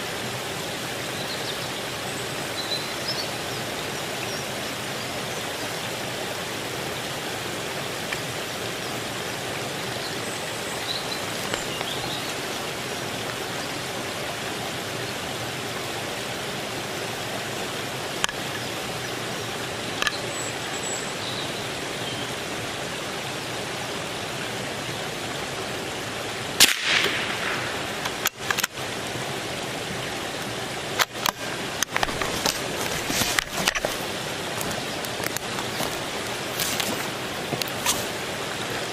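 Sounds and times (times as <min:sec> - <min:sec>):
steady rushing outdoor noise: 0:00.0 - 0:38.9.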